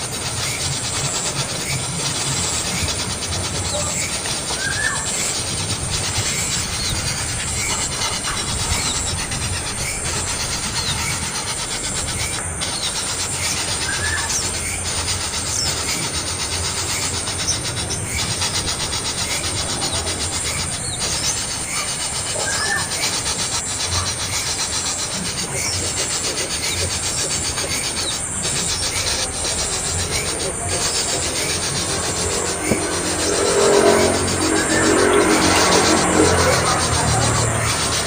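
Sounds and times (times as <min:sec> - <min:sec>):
young bird raspy begging calls: 0:00.6 - 0:38.0.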